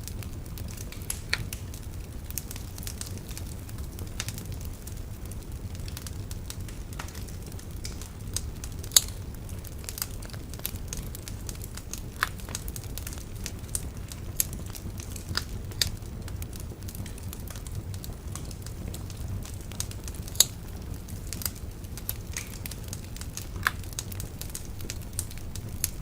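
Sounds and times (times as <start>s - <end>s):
bonfire crackling: 0.0s - 26.0s
steady low rumble: 0.0s - 26.0s.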